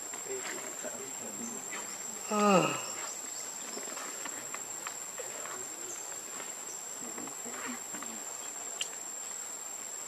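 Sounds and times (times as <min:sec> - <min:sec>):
high-pitched insect trill: 0:00.0 - 0:10.0.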